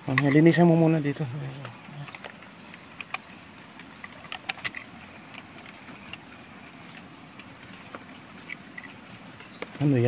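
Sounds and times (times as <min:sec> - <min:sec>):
small clicks and knocks: 0:01.5 - 0:10.0.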